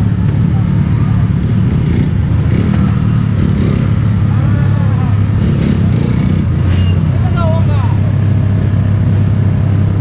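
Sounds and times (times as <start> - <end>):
motorcycle engines idling: 0.0 - 10.0.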